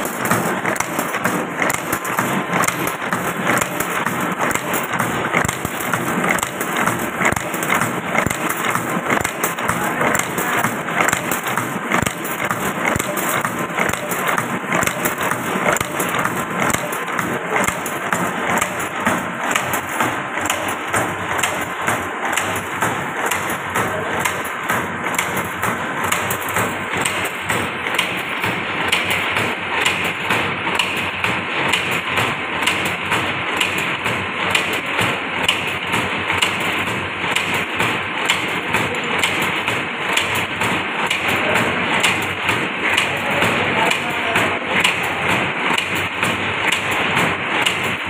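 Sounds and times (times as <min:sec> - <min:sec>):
hook making machine clattering: 0:00.0 - 0:48.0.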